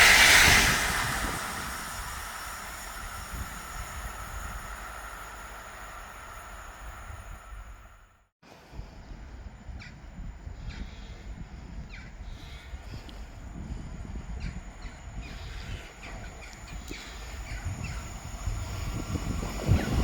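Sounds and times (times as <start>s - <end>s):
train rumbling: 0.0s - 10.5s, 12.6s - 20.0s.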